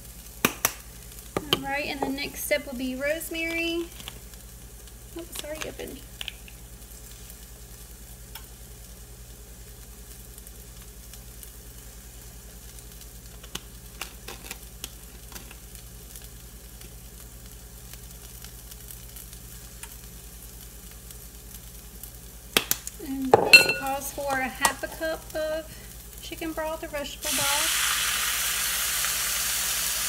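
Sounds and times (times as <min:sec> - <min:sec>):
vegetables sizzling in a pan: 0:00.0 - 0:30.0.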